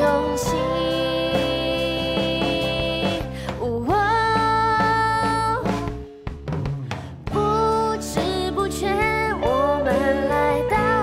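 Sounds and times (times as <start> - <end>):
woman singing pop ballad: 0.0 - 6.1, 6.9 - 11.0.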